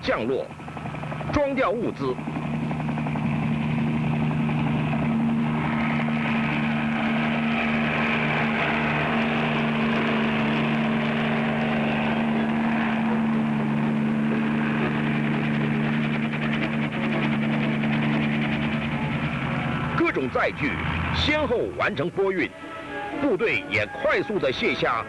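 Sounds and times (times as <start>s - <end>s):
low mechanical humming drone: 0.0s - 25.0s.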